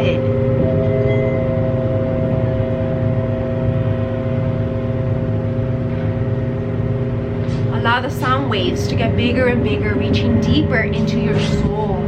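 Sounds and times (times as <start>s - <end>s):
low wavering hum: 0.0s - 12.0s
singing bowls ringing: 0.0s - 12.0s.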